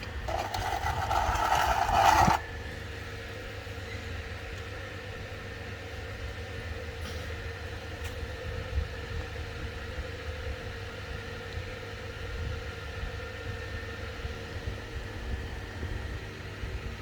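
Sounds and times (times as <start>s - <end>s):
constant low rumble: 0.0s - 17.0s
low mechanical hum: 0.0s - 17.0s.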